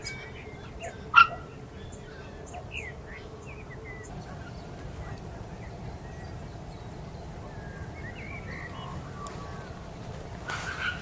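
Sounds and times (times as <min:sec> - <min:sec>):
faint bird chirps: 0:00.0 - 0:09.8
low outdoor rumble: 0:00.0 - 0:11.0.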